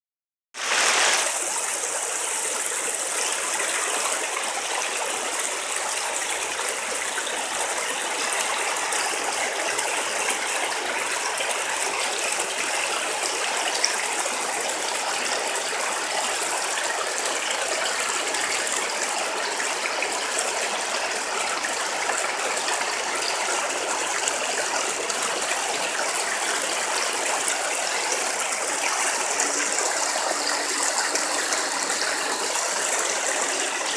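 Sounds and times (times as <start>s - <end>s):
stream water rushing: 0.6s - 33.9s.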